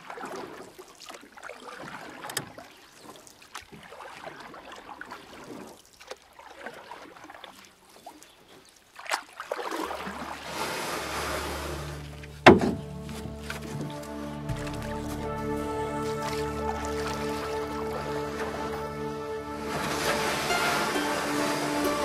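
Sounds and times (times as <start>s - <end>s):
oars splashing in water: 0.0s - 22.0s.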